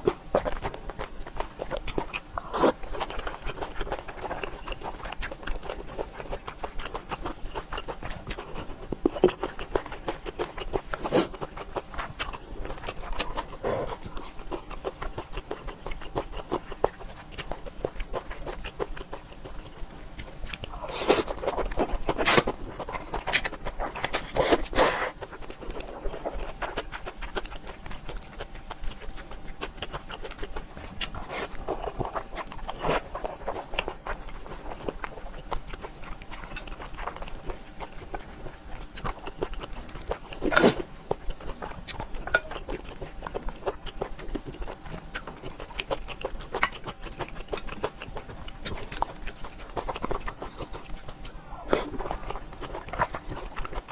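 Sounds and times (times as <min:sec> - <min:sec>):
person chewing and biting: 0:00.0 - 0:53.9.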